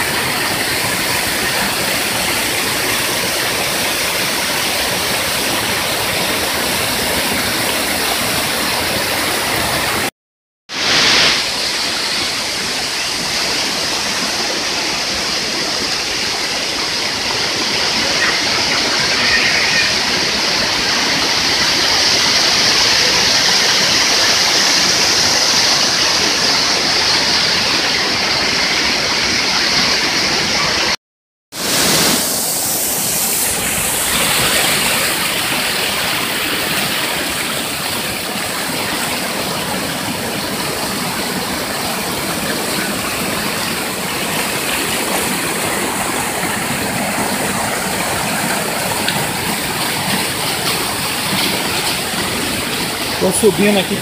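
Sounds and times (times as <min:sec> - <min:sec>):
waterfall rushing over rocks: 0:00.0 - 0:10.1, 0:10.7 - 0:31.0, 0:31.6 - 0:54.0.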